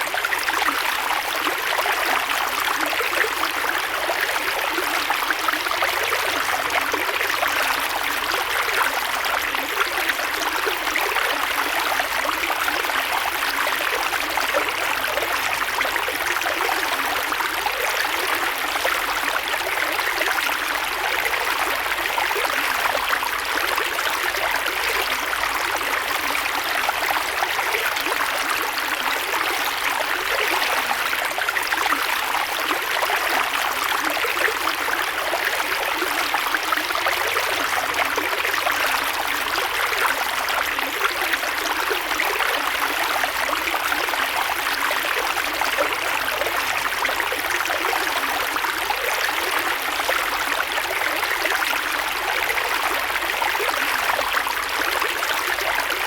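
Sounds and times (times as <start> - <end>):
creek water flowing over stones: 0.0 - 56.0.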